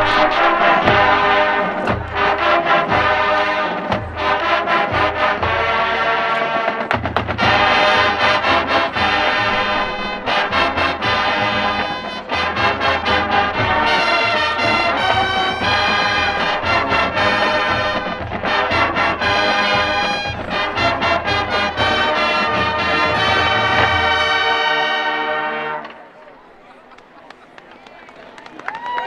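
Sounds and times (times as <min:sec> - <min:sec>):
marching band playing brass: 0:00.0 - 0:28.4.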